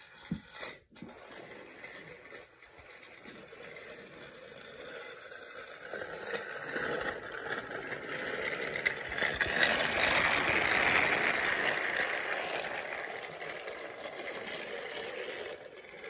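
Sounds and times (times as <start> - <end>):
toy train whirring and rattling: 0.0 - 16.0.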